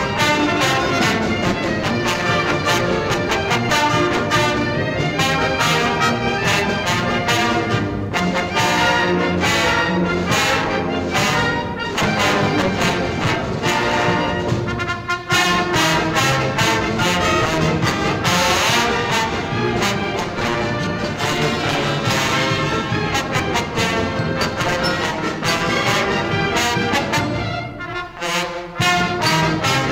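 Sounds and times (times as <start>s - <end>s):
brass band playing: 0.0s - 29.9s.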